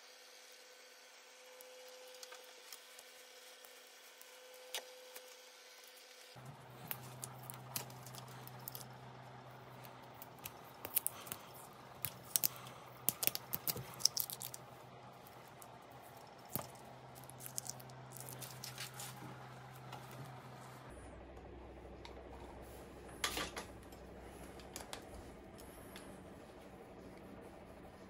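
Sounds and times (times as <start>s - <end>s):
low steady hum: 0.0s - 28.0s
tape crackling and clicking: 1.5s - 27.9s.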